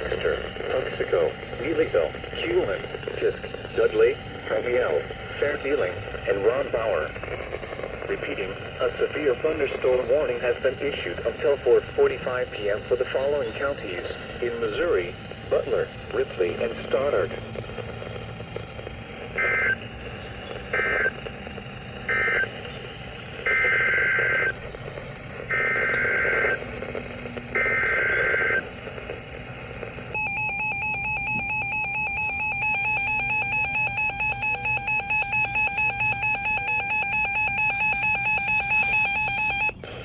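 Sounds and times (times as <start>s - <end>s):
loud steady attention tone: 0.0s - 40.0s
screeching data bursts: 0.0s - 40.0s.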